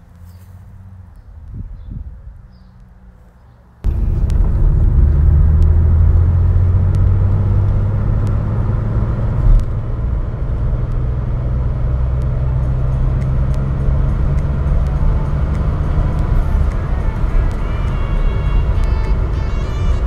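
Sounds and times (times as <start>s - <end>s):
road and wind noise: 0.0s - 20.0s
car engine running: 3.8s - 20.0s.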